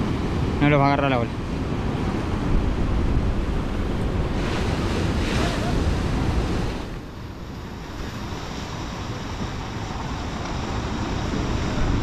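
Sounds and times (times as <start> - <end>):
surf washing against rocks: 0.0 - 12.0
wind on microphone: 1.2 - 12.0.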